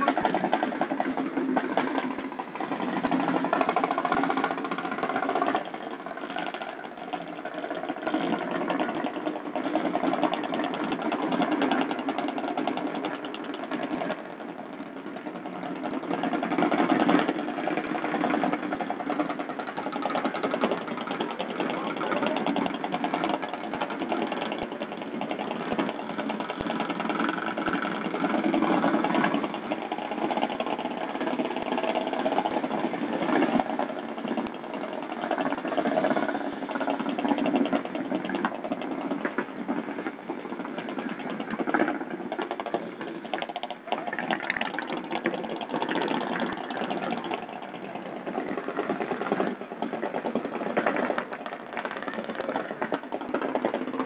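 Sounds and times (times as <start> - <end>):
engine idling with ticking: 0.0 - 54.0.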